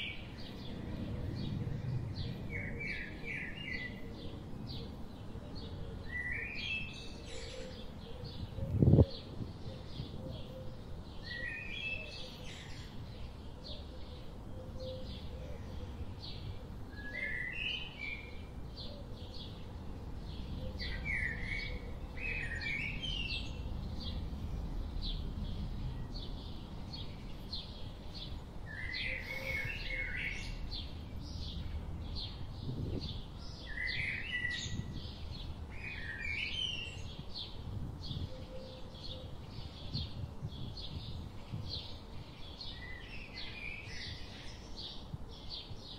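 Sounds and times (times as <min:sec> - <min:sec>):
wind rumble on microphone: 0:00.0 - 0:13.8, 0:18.0 - 0:45.9
birds chirping: 0:00.0 - 0:45.9.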